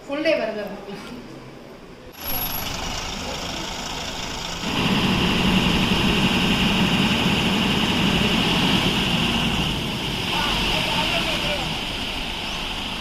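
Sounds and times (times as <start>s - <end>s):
road and traffic noise: 2.1s - 13.0s
vehicle engine running: 2.2s - 13.0s.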